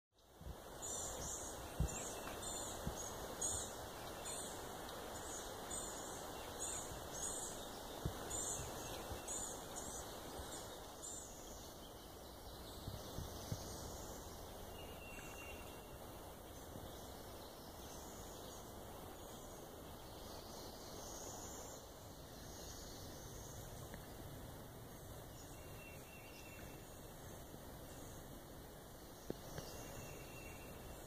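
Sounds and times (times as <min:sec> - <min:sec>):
songbird high chirps: 0:00.1 - 0:24.3, 0:24.9 - 0:28.3, 0:29.0 - 0:31.0
breeze rushing through trees: 0:00.1 - 0:31.0.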